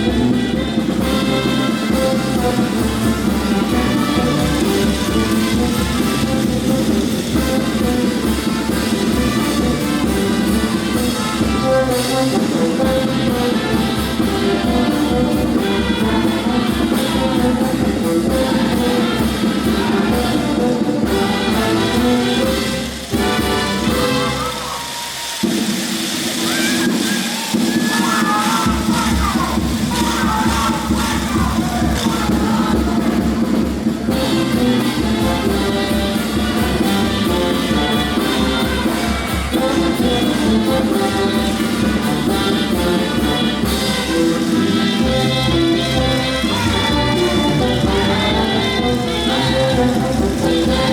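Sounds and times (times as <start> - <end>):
brass band playing: 0.0 - 50.9
steady drum beat: 0.0 - 50.9.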